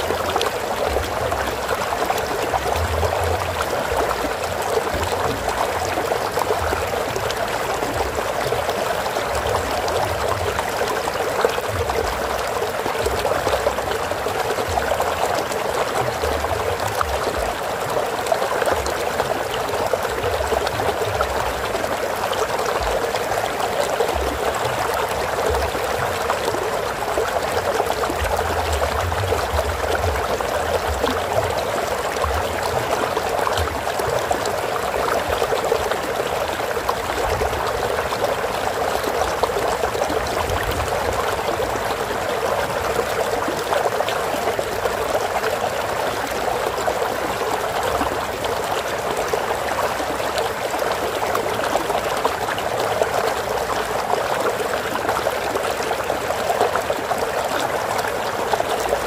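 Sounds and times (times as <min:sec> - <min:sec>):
stream water flowing over rocks: 0:00.0 - 0:59.0.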